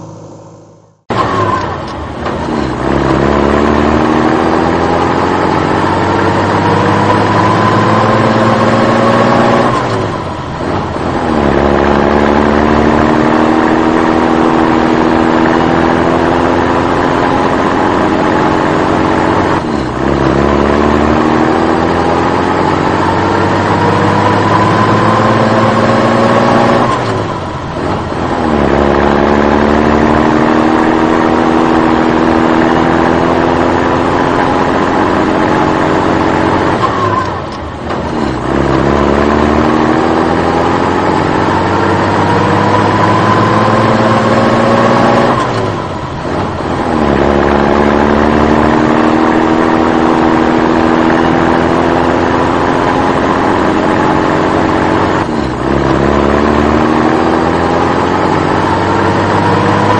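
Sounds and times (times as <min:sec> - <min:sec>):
engine accelerating through gears: 0:00.0 - 0:59.9.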